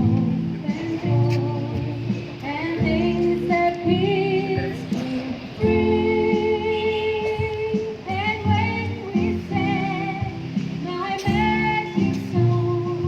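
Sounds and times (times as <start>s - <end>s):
guitar accompaniment: 0.0s - 13.0s
woman singing long notes: 0.0s - 13.0s.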